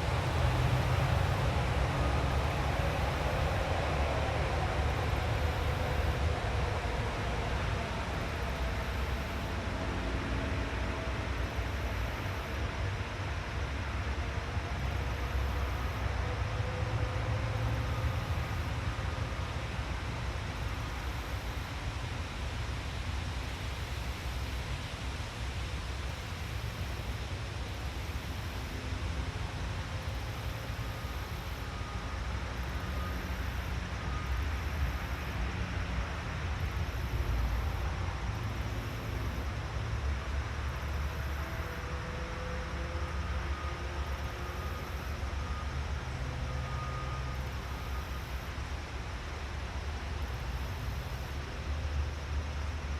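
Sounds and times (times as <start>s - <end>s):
low rumble and hiss: 0.0s - 52.9s.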